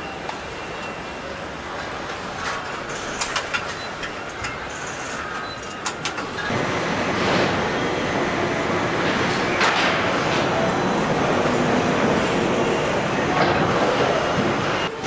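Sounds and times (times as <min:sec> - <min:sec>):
machinery and conveyors humming: 0:00.0 - 0:15.0.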